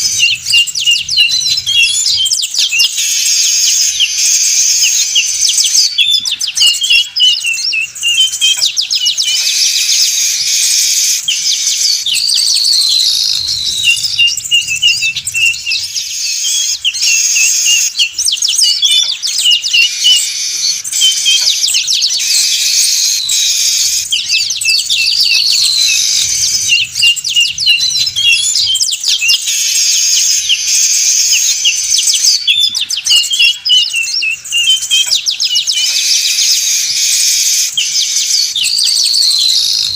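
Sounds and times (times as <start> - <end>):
weaver birds flock chattering: 0.0 - 39.9.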